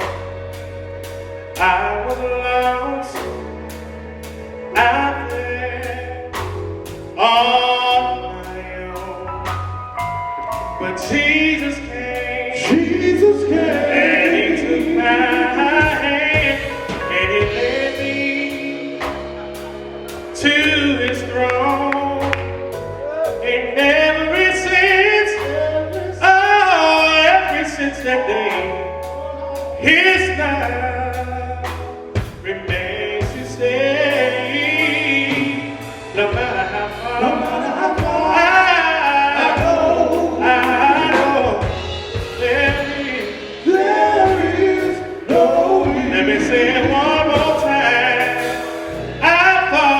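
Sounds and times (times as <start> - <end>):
drum beats: 0.0 - 8.0, 9.5 - 26.6, 27.5 - 49.9
band accompaniment: 0.0 - 49.9
low bass notes: 0.0 - 49.9
male group singing gospel: 0.0 - 49.9.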